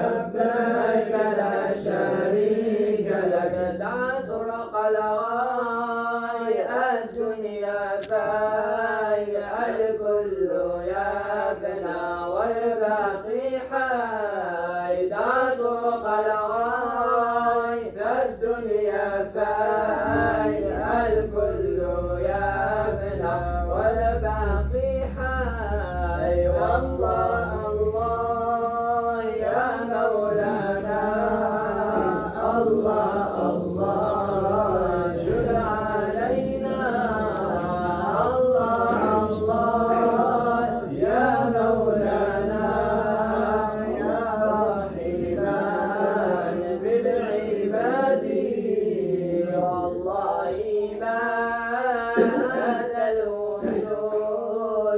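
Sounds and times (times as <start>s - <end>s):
voices chanting devotional melody: 0.0s - 54.9s.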